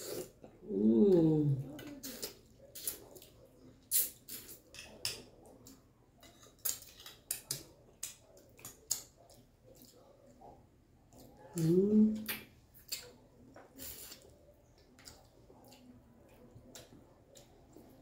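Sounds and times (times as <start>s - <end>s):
chewing and lip smacking: 1.8s - 11.6s, 12.2s - 18.0s.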